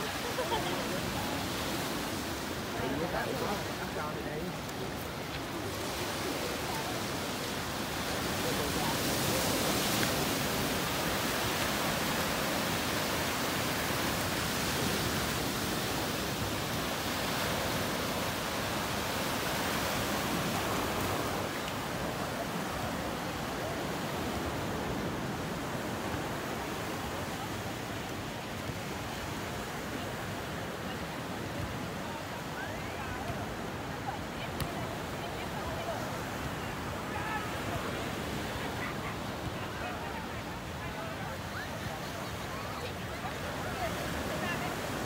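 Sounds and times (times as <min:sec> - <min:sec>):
waves breaking on beach: 0:00.0 - 0:45.0.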